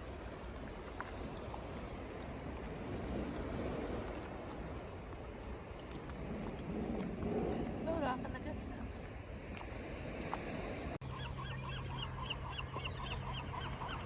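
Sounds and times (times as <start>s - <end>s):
water lapping against kayak hull: 0.0s - 14.0s.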